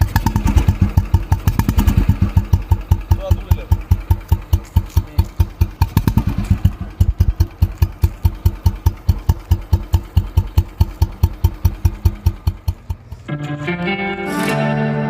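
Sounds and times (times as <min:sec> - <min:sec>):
motorcycle engine idling: 0:00.0 - 0:13.6.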